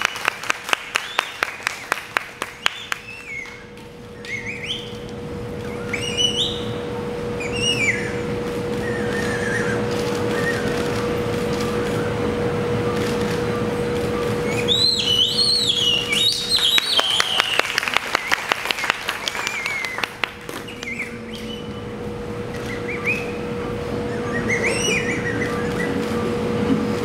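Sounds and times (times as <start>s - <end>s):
steady hum: 0.0s - 27.0s
bird-like whistled chirps: 1.0s - 11.1s, 14.2s - 21.9s, 22.5s - 26.4s.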